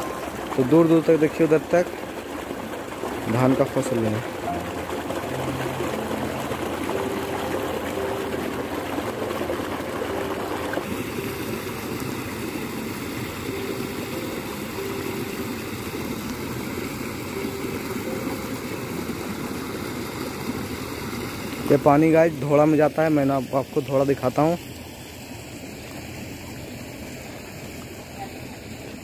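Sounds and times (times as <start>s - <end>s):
water rushing along a channel: 0.0s - 29.0s.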